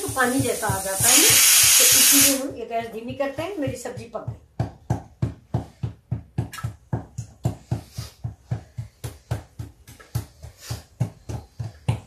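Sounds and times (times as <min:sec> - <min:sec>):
rhythmic dull knocking: 0:00.0 - 0:12.0.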